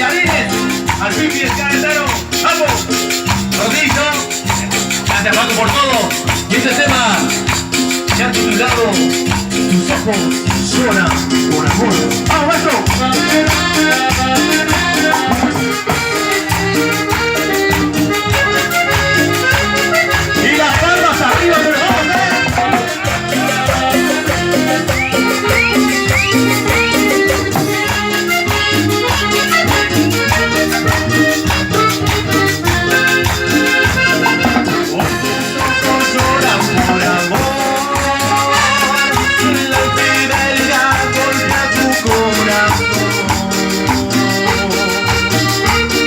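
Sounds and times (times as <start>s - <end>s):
live cumbia band playing: 0.0s - 46.0s
shaken percussion rhythm: 0.0s - 46.0s.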